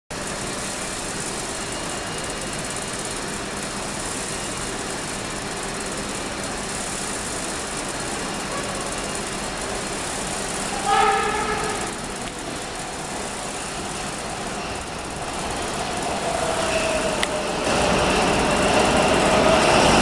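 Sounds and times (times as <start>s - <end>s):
train approaching through tunnel: 0.1s - 20.0s.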